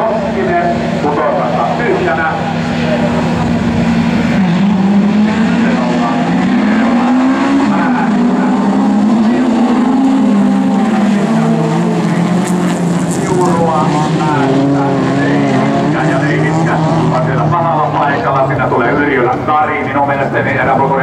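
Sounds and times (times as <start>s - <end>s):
rally car engines revving hard: 0.0s - 21.0s.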